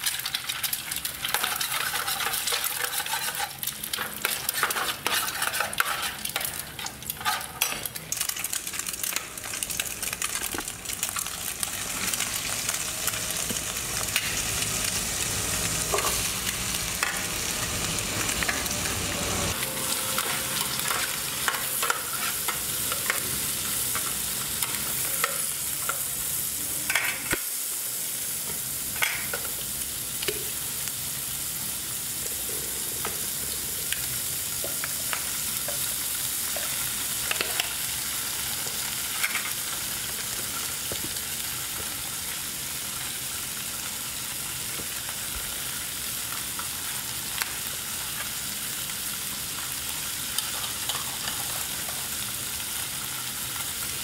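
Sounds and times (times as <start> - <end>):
egg and vegetables sizzling in oil: 0.0 - 54.0.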